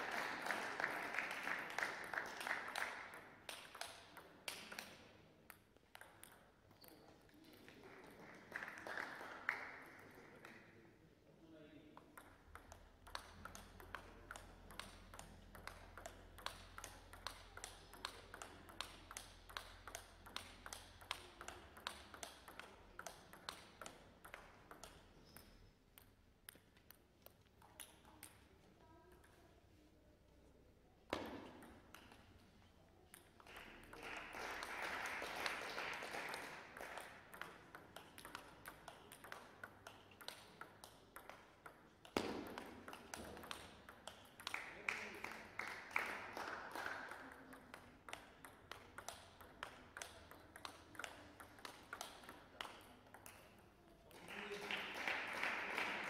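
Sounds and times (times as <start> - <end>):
table tennis balls clicking: 1.6 - 8.2, 12.0 - 29.4, 31.0 - 45.9, 46.6 - 54.2.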